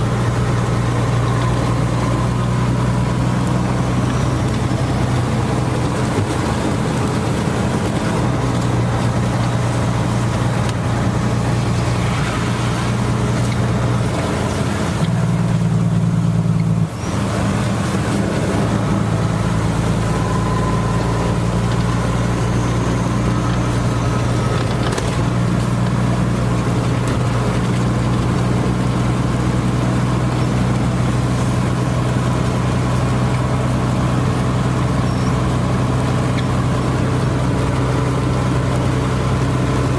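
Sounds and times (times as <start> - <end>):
low engine-like hum: 0.0 - 39.9.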